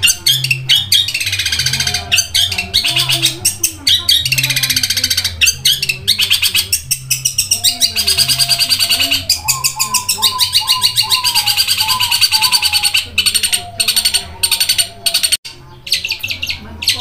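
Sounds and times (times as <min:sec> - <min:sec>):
bird singing rapid chirps: 0:00.0 - 0:17.0
lower bird notes: 0:00.0 - 0:17.0.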